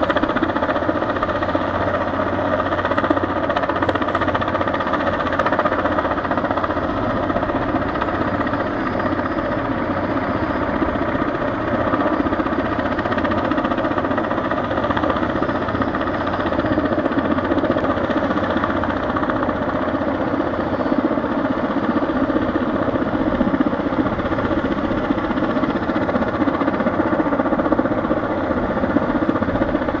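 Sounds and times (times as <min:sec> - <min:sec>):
helicopter engine and rotor: 0:00.0 - 0:30.0.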